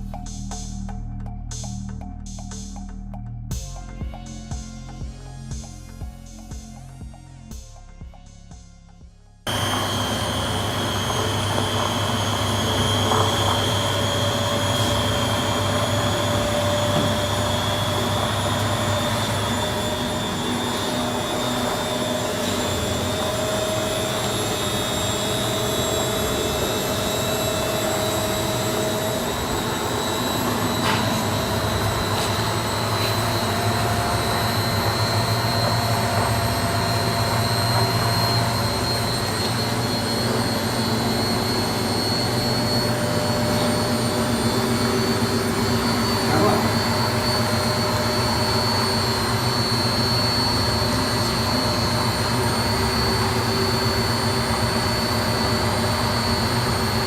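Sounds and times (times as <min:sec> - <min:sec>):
washing machine spinning: 0:09.5 - 0:57.0.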